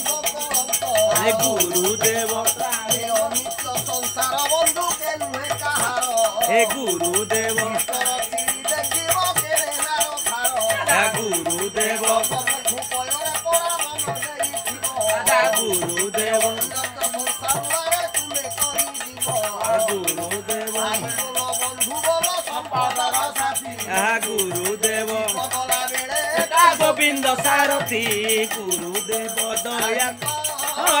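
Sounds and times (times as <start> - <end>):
men singing a devotional chant: 0.0 - 31.0.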